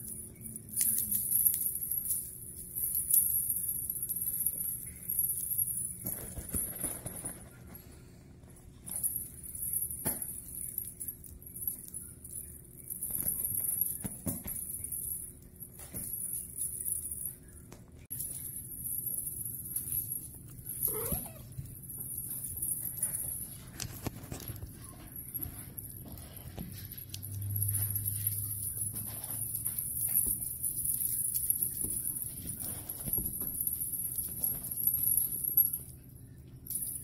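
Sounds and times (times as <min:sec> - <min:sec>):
small bells jingling: 0:00.0 - 0:07.8, 0:08.7 - 0:37.0
faint steady hum: 0:00.0 - 0:37.0.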